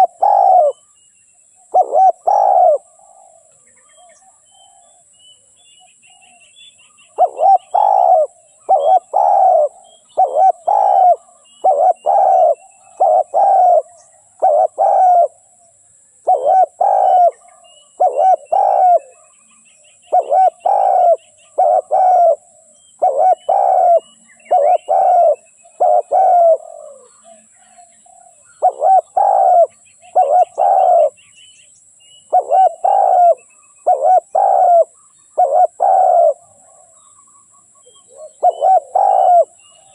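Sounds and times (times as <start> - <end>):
dove cooing: 0.0 - 0.8, 1.7 - 4.9, 7.1 - 15.6, 16.2 - 19.4, 20.1 - 31.2, 32.3 - 37.0, 37.8 - 39.9
small birds chirping: 0.0 - 39.9.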